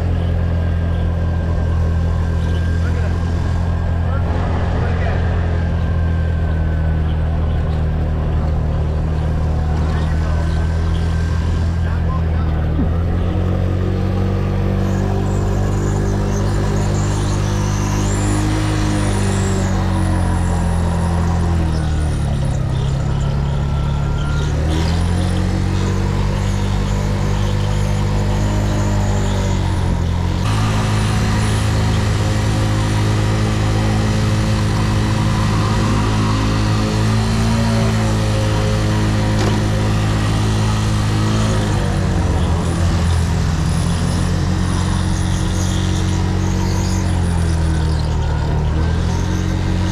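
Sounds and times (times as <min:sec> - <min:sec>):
motorcycle engine at low revs: 0:00.0 - 0:49.9.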